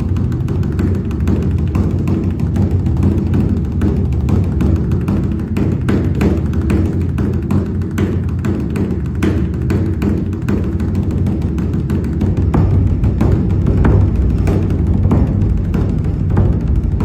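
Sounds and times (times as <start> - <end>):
drumming: 0.0 - 17.0.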